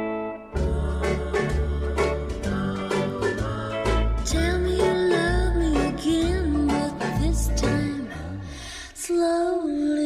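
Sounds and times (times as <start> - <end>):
band backing music: 0.0 - 8.1
woman singing pop song: 0.6 - 10.0.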